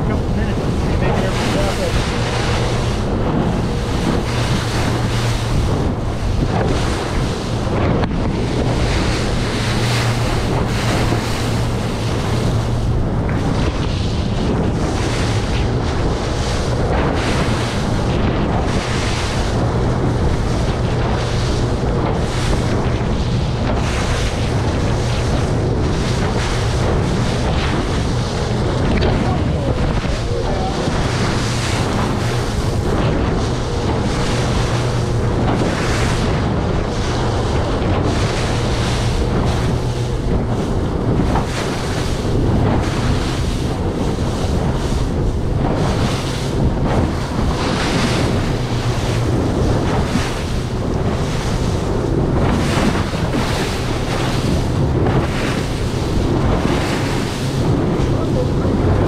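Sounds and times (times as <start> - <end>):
hull slapping into waves: 0.0 - 59.0
outboard engine drone: 0.0 - 59.0
wind on microphone: 0.0 - 59.0.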